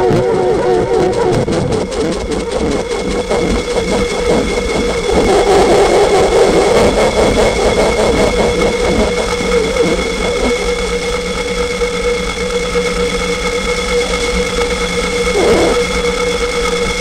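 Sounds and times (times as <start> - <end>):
electronic droning tones: 0.0 - 17.0.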